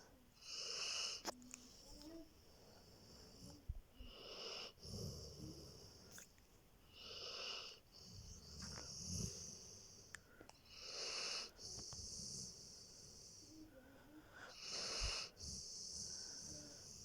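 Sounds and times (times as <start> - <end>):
dog snoring: 0.4 - 1.3, 2.8 - 6.2, 6.9 - 13.6, 14.4 - 17.0.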